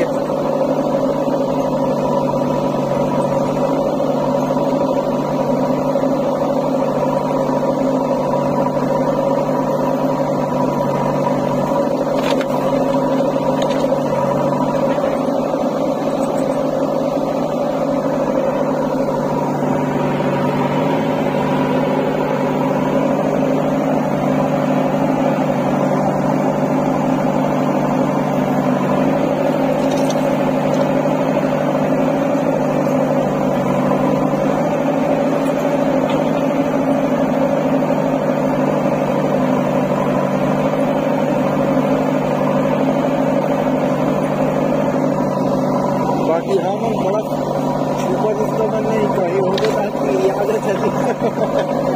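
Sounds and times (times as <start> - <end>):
backhoe diesel engine running: 0.0 - 51.9.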